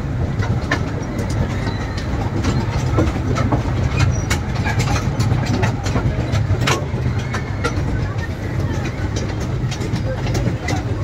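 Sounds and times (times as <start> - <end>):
toy train rumble: 0.0 - 11.0
train cars clacking and rattling: 0.0 - 11.0.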